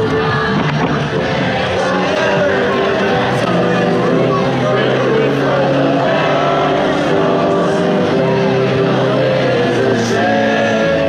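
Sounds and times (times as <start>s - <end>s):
background music held notes: 0.0s - 11.0s.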